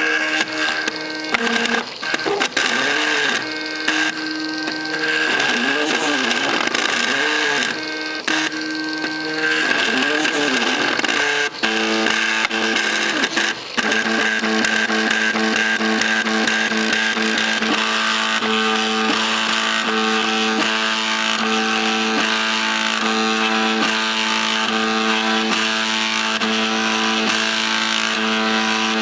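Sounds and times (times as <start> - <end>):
printer stepper motors whining: 0.0 - 29.0.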